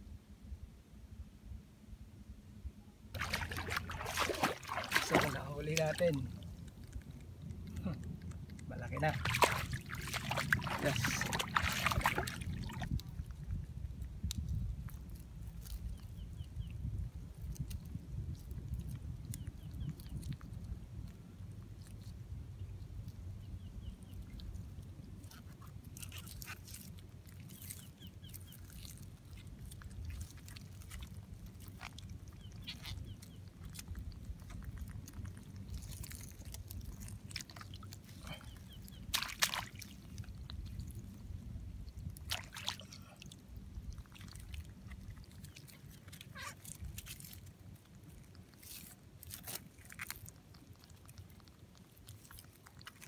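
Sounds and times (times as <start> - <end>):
steady low rumble: 0.0 - 26.3, 26.9 - 48.5
crab clicks and crackles: 3.2 - 53.0.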